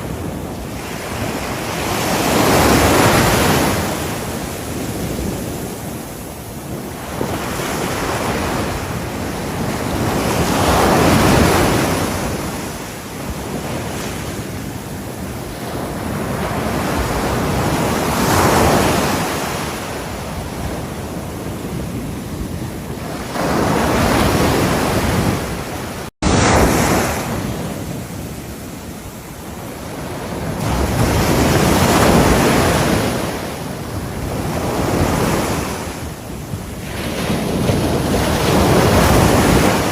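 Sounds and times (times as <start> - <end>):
ocean waves washing ashore: 0.0 - 39.9
wind noise on microphone: 0.0 - 39.9.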